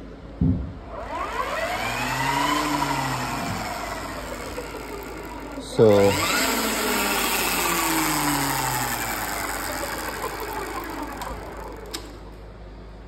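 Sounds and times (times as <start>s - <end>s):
electric motor whining down: 0.8s - 12.4s.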